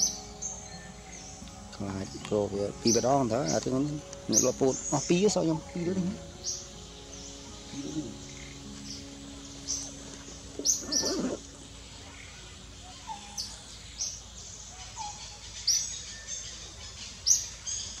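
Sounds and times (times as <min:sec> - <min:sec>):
background hiss: 0:00.0 - 0:18.0
small birds chirping: 0:00.0 - 0:18.0.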